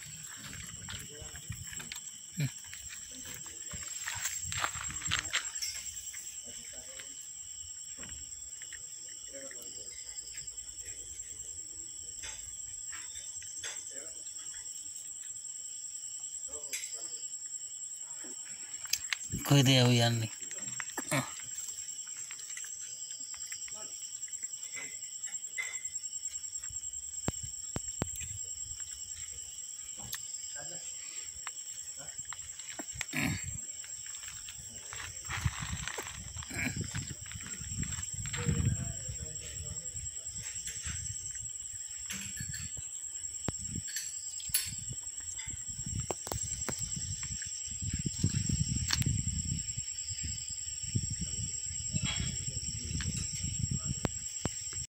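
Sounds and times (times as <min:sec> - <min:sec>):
crickets chirring: 0:00.0 - 0:54.9.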